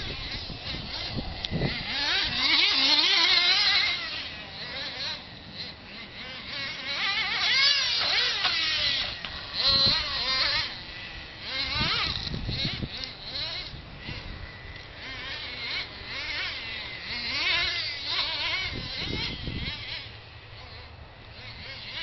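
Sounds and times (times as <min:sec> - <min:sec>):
rc truck engines racing: 0:00.0 - 0:22.0.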